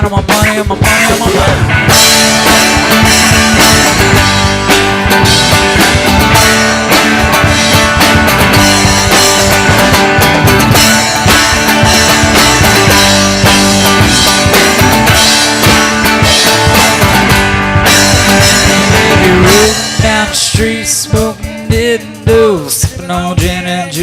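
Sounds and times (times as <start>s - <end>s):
drum kit beat: 0.0s - 24.0s
electric guitar: 0.0s - 24.0s.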